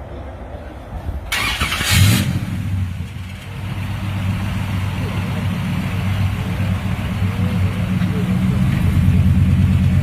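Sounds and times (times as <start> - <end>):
truck engine rumbling: 0.0 - 10.0.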